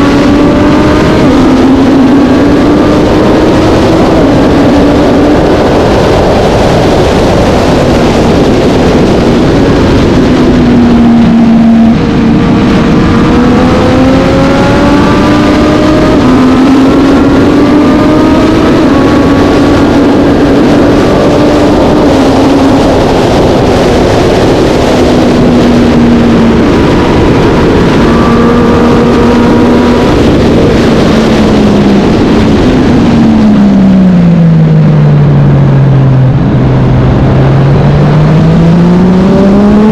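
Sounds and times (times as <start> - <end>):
racing motorcycle engine revving: 0.0 - 39.9
steady rushing noise: 0.0 - 39.9.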